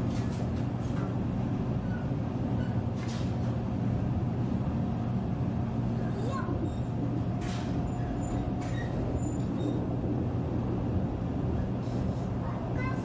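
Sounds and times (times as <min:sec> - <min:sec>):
train low rumble and hum: 0:00.0 - 0:13.0.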